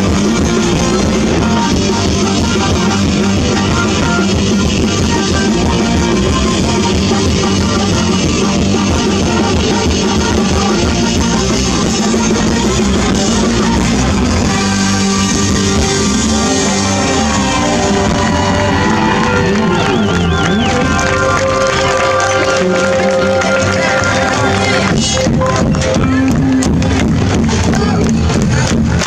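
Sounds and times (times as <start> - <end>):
drum kit: 0.0 - 29.0
electric guitar: 0.0 - 29.0
live rock band: 0.0 - 29.0.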